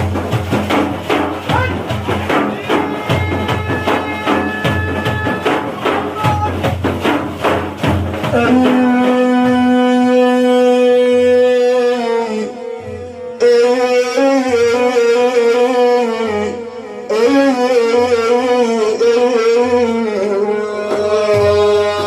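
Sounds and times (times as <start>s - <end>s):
drums beating: 0.0s - 18.8s, 19.6s - 22.0s.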